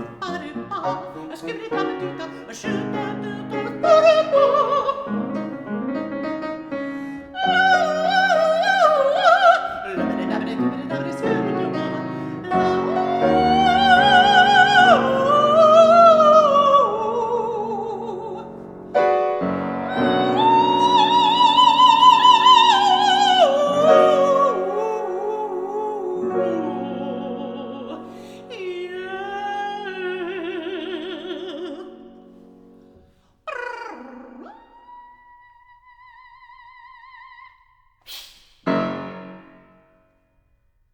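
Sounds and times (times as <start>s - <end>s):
woman singing opera: 0.0s - 32.4s, 33.5s - 37.8s
piano accompaniment: 0.0s - 33.2s, 38.6s - 40.2s.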